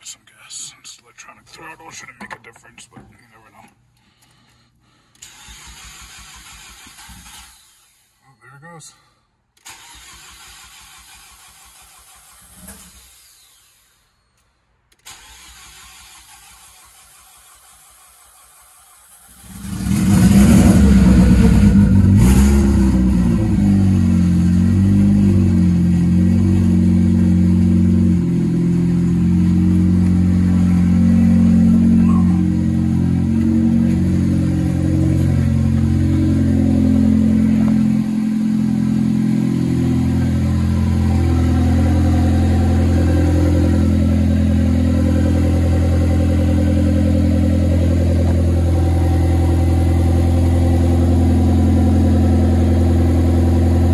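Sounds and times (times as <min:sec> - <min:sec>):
car engine starting and idling: 0:05.1 - 0:08.2, 0:09.5 - 0:13.9, 0:14.9 - 0:53.9.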